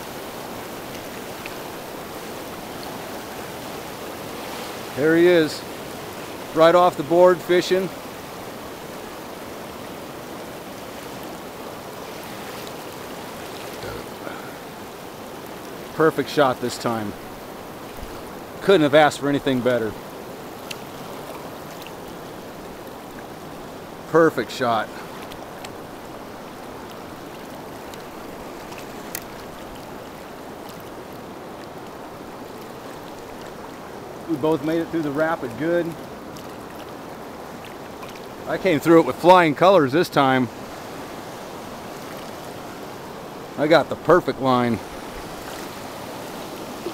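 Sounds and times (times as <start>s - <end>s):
fast river current rushing: 0.0s - 46.9s.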